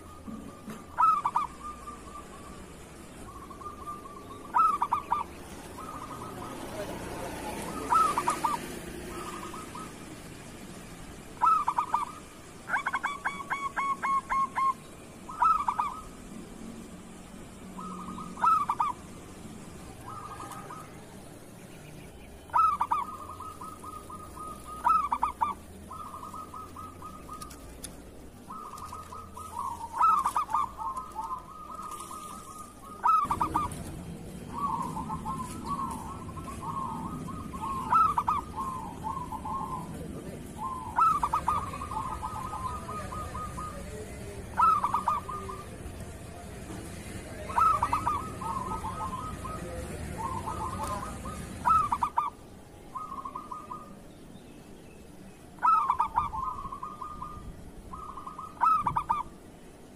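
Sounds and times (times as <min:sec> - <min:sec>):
doves cooing: 0:00.0 - 0:54.1, 0:55.1 - 0:59.9.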